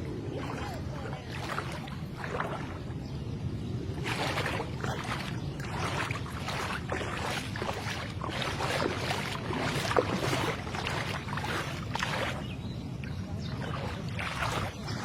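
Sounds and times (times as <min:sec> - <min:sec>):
wading through floodwater: 0:00.0 - 0:15.0
sharp water splash: 0:00.3 - 0:02.9, 0:04.0 - 0:12.6, 0:13.6 - 0:15.0.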